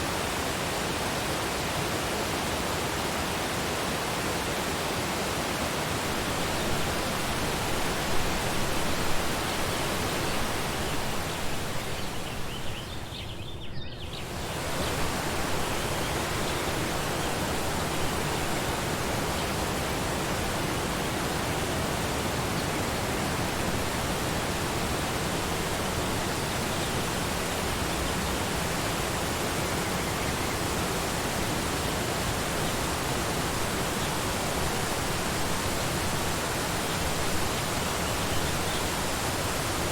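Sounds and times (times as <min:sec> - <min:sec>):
waterfall rushing: 0:00.0 - 0:12.8, 0:14.2 - 0:39.9.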